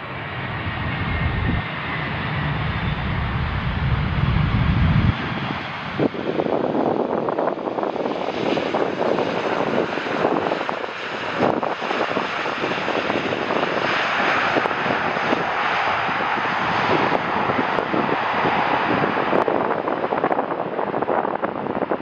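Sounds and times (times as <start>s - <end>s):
jet airliner engines rushing: 0.0s - 22.0s.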